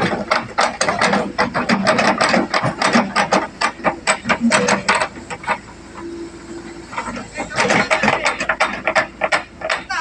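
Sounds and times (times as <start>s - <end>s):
steel crawler tracks clanking: 0.0s - 10.0s.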